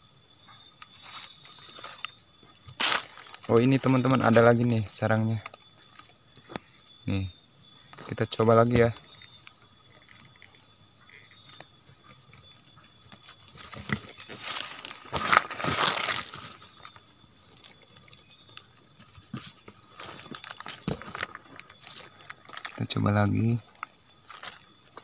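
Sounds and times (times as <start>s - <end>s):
dry leaves and twigs rustling: 0.8s - 7.0s, 7.8s - 25.0s.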